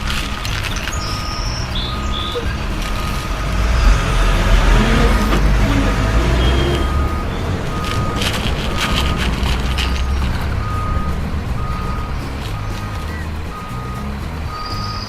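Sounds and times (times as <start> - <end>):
heavy vehicle engine rumbling: 0.0 - 15.0
reversing alarm beeping: 0.8 - 15.0.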